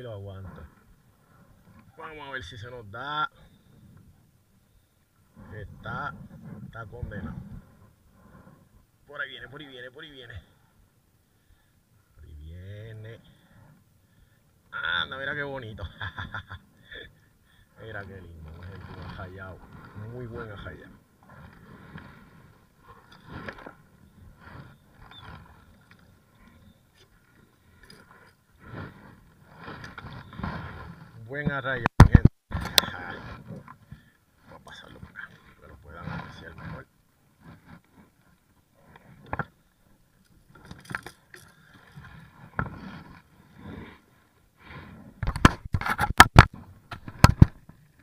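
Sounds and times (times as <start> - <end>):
knocks and scrapes against kayak: 0.0 - 10.6, 12.8 - 48.0.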